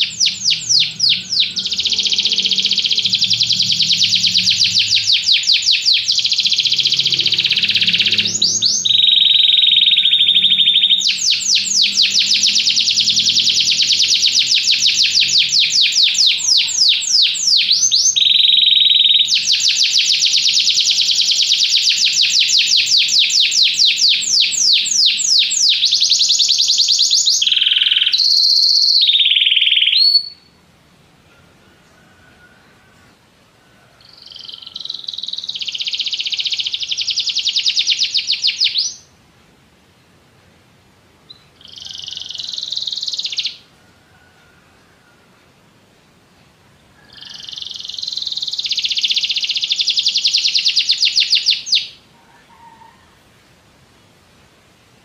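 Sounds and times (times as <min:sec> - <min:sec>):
canary singing trills: 0:00.0 - 0:30.6, 0:34.0 - 0:39.1, 0:41.3 - 0:43.7, 0:47.0 - 0:53.0.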